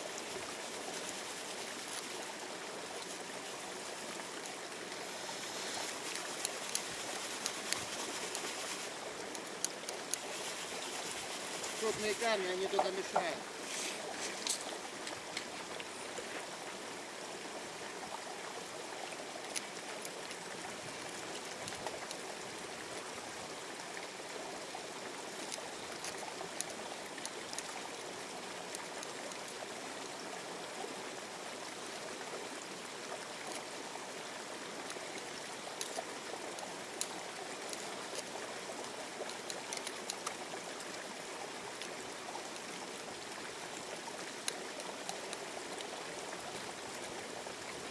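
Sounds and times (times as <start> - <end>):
river water running: 0.0 - 47.9.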